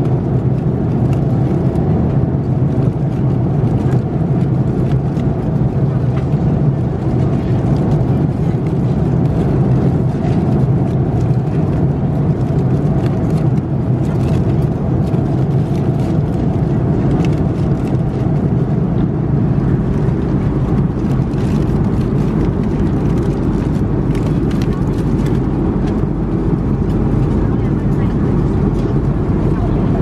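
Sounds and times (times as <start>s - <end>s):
airplane cabin drone: 0.0s - 30.0s.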